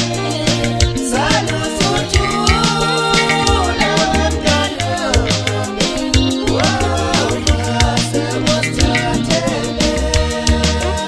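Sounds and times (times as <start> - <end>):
song with bass and drum beat: 0.0 - 11.0
gliding melody line: 0.2 - 11.0.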